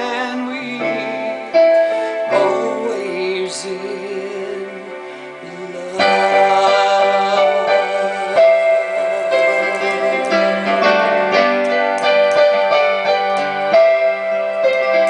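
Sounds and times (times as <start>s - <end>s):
keyboard playing slow ballad chords: 0.0s - 15.0s.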